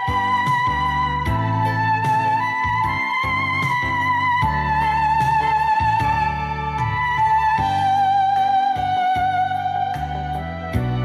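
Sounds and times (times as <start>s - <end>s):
backing track: 0.0s - 11.0s
digital wind instrument melody: 0.0s - 11.0s.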